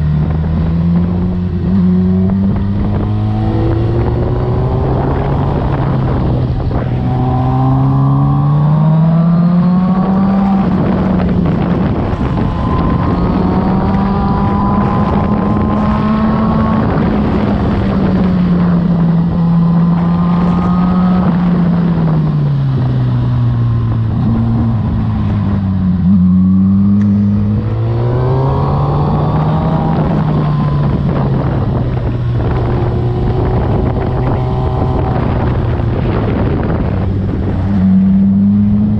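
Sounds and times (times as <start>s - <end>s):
motorcycle engine: 0.0s - 38.9s
wind on microphone: 0.0s - 38.9s.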